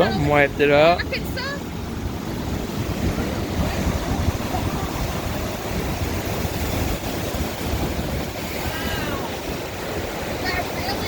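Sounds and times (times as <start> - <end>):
waves breaking on shore: 0.0 - 11.0
wind gusts rumbling on microphone: 0.0 - 11.0.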